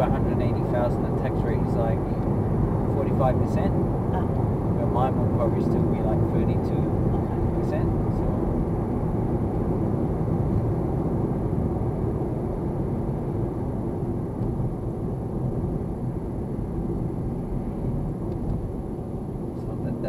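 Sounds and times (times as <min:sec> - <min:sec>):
car road and tyre noise: 0:00.0 - 0:20.0.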